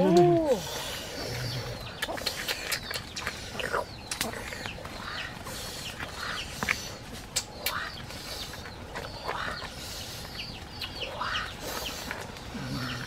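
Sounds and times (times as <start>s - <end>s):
steady background noise: 0.0s - 13.0s
bird-like chirps: 0.6s - 13.0s.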